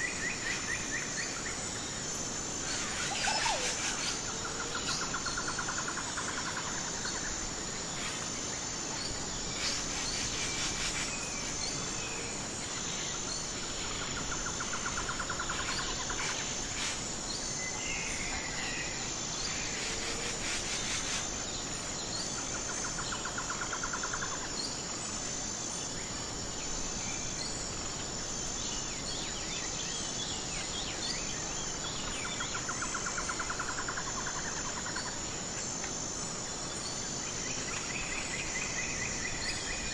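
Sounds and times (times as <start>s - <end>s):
insects chirping drone: 0.0s - 39.9s
low rapid insect trill: 0.0s - 39.9s.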